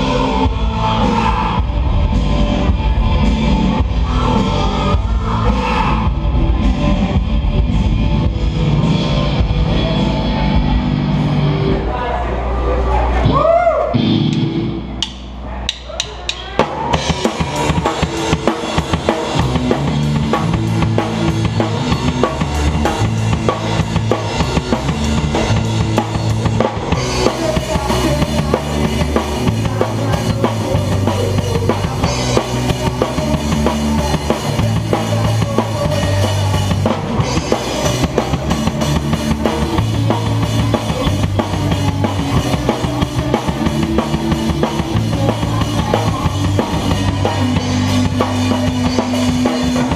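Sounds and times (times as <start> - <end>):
drum kit beat: 0.0 - 11.8, 14.0 - 49.9
bass notes: 0.0 - 49.9
rock band playing: 0.0 - 49.9.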